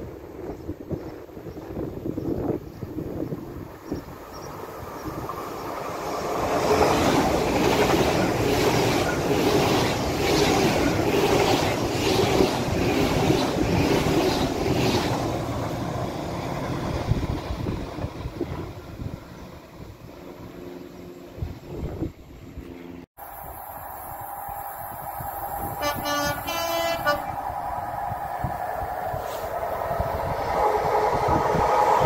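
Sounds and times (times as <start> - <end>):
train passing: 0.0 - 32.0.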